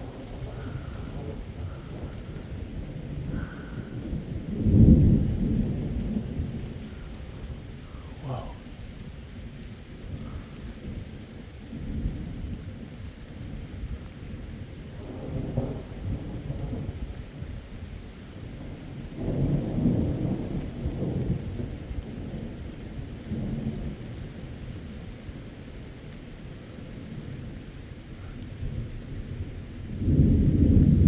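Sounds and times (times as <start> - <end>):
thunder rumbling: 0.0 - 24.7, 28.2 - 31.0
steady rain: 0.0 - 31.0.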